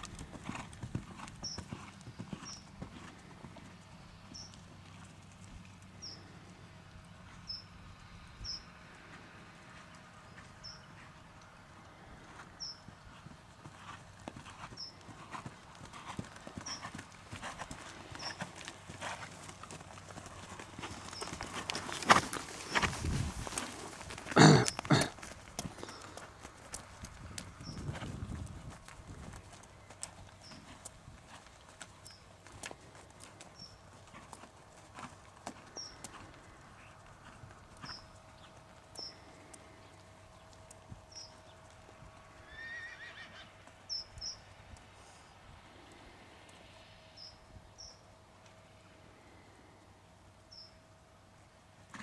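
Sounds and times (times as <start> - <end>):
horse hooves trotting: 0.0 - 45.0.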